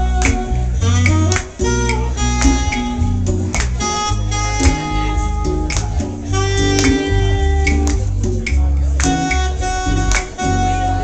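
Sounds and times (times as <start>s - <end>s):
percussion striking: 0.0s - 10.8s
saxophone long notes: 0.0s - 11.0s.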